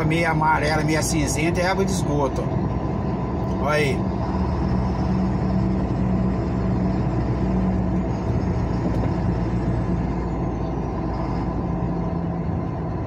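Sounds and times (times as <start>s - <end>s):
car engine hum: 0.0s - 13.0s
road noise: 0.0s - 13.0s.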